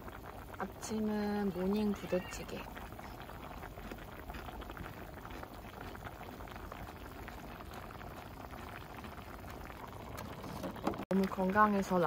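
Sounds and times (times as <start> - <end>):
stew bubbling in a pan: 0.0 - 12.0.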